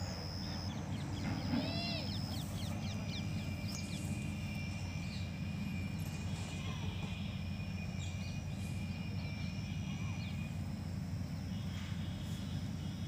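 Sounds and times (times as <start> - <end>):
birds calling: 0.0 - 13.0
steady low rumble: 0.0 - 13.0.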